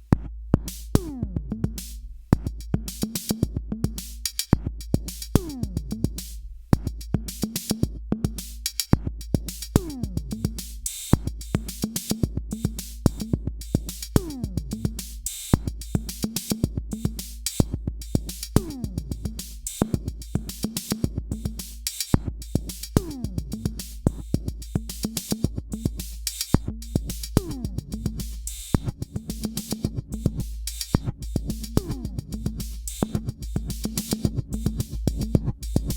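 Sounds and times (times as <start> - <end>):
drum machine beat: 0.0 - 35.9.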